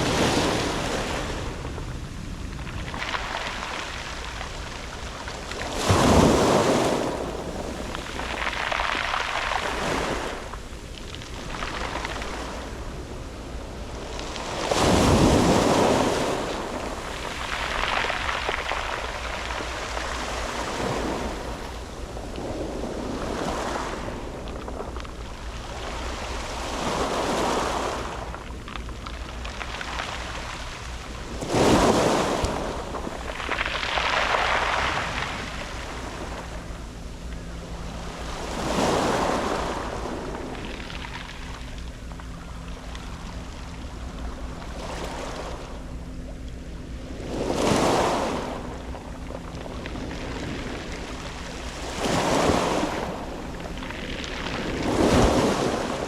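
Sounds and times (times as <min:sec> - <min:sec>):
waves breaking on pebble beach: 0:00.0 - 0:01.6, 0:02.6 - 0:13.2, 0:13.8 - 0:28.5, 0:29.2 - 0:36.9, 0:37.8 - 0:41.6, 0:47.2 - 0:48.8, 0:49.6 - 0:56.0
wind on microphone rumble: 0:00.0 - 0:56.0.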